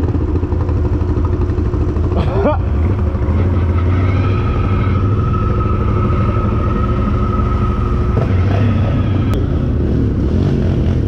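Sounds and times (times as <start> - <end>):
vehicle engine running loud: 0.0 - 11.0.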